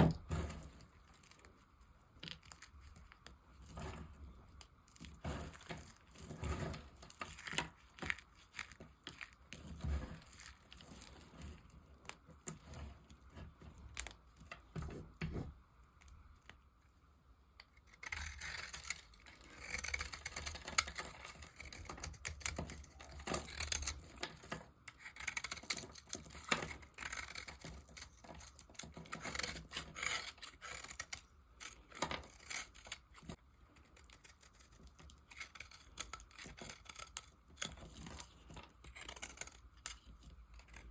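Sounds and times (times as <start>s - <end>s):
knife scraping bar soap: 0.0s - 16.6s, 17.6s - 40.9s.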